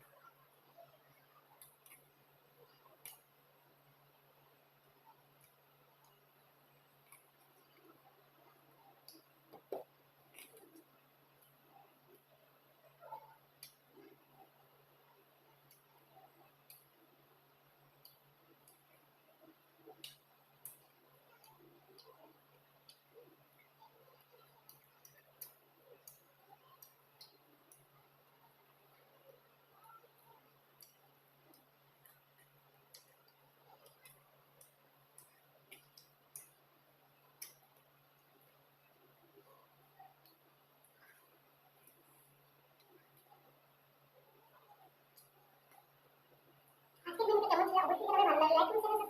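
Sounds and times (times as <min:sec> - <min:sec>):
faint room hum: 0:00.0 - 0:49.0.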